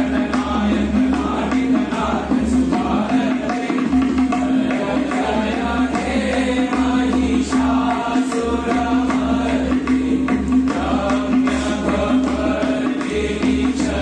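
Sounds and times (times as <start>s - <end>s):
group chanting: 0.0s - 14.0s
tabla: 0.0s - 14.0s.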